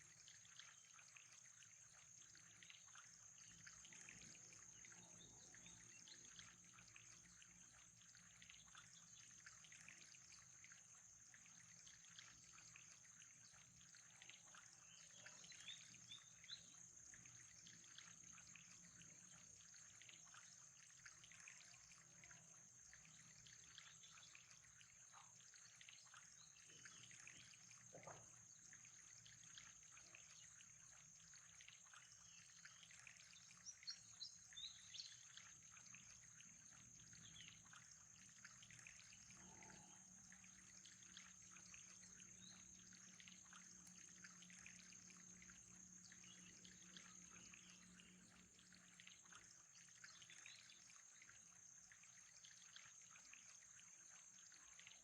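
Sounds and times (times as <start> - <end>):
faint trickling water: 0.0 - 55.0.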